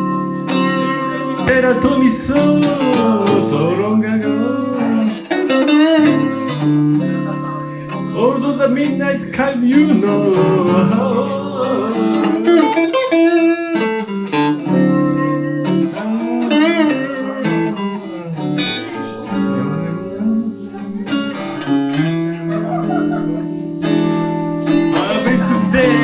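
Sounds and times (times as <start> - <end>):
electric guitar blues lead: 0.0 - 26.0.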